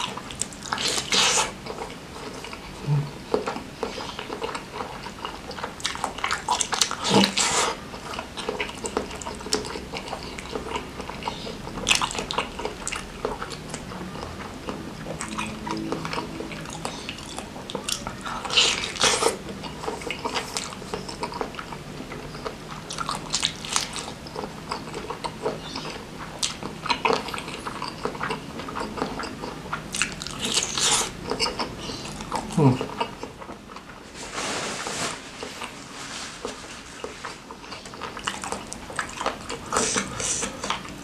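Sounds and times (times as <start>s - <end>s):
person chewing with mouth smacks: 0.0s - 34.2s, 36.4s - 41.0s.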